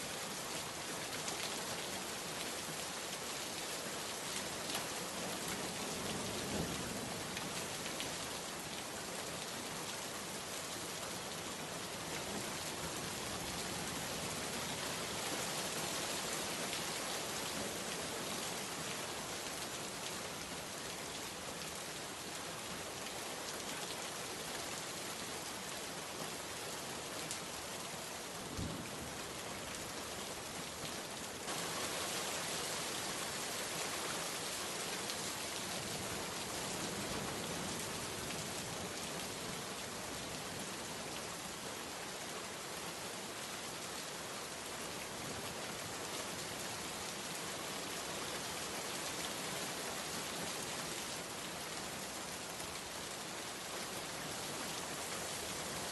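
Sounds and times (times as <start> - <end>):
heavy rain on hard surface: 0.0 - 55.9.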